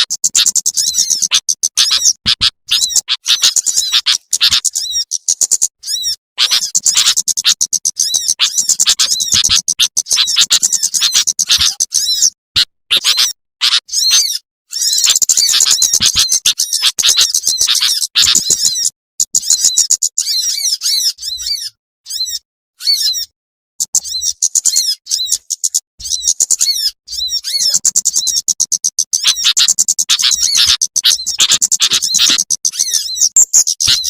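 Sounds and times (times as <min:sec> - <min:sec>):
small birds chirping and twittering: 0:00.0 - 0:34.0.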